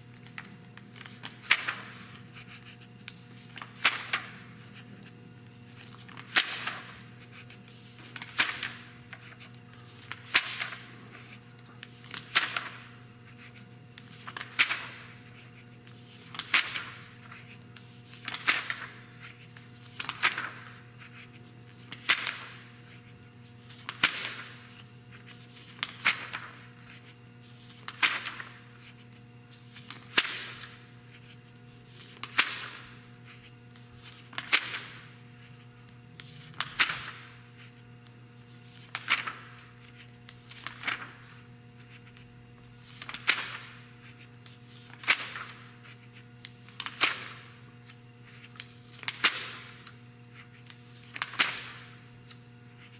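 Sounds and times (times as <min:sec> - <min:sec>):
faint steady hum: 0:00.0 - 0:52.9
magazine pages turning: 0:00.1 - 0:52.9.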